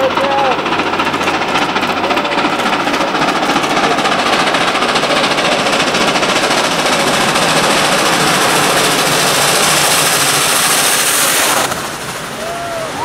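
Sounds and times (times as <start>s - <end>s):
steam locomotive exhaust chuffs: 0.0s - 13.0s.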